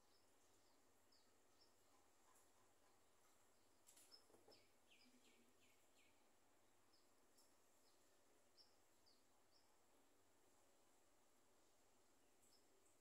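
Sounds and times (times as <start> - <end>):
faint high bird chirps: 0.0 - 9.8, 12.4 - 13.0.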